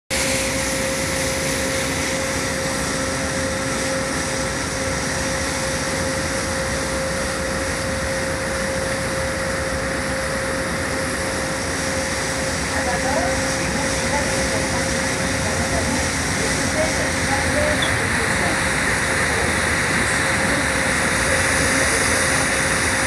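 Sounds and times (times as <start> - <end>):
boat engine droning: 0.1 - 23.0.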